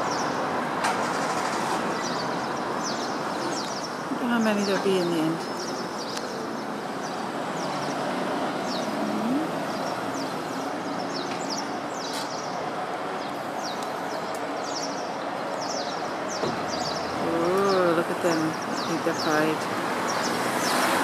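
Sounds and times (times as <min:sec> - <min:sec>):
city traffic hum: 0:00.0 - 0:21.0
birds calling sharply: 0:01.0 - 0:12.6, 0:13.2 - 0:21.0.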